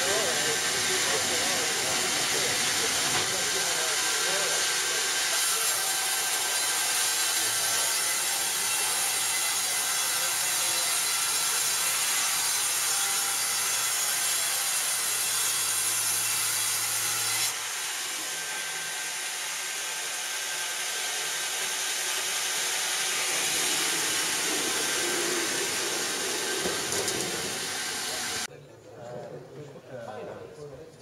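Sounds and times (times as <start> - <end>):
band saw cutting log: 0.0 - 28.5
sawmill machine running: 0.0 - 28.5.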